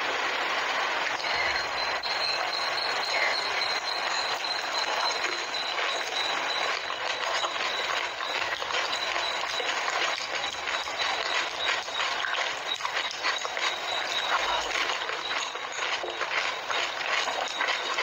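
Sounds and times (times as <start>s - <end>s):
crunching and chewing: 1.4s - 18.0s.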